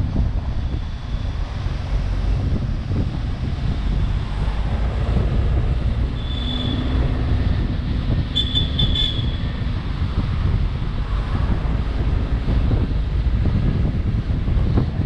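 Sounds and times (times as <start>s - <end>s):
vehicle low rumble: 0.0s - 15.0s
wind buffeting microphone: 0.0s - 15.0s.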